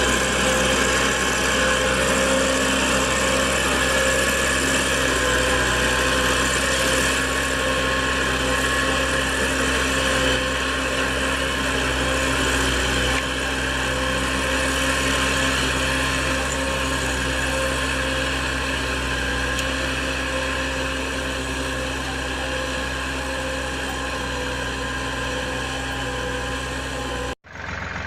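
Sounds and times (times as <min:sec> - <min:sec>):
small tractor engine running: 0:00.0 - 0:28.0.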